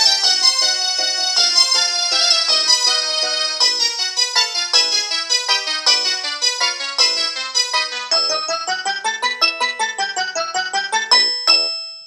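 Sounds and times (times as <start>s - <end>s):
polyphonic phone ringtone: 0.0s - 12.0s.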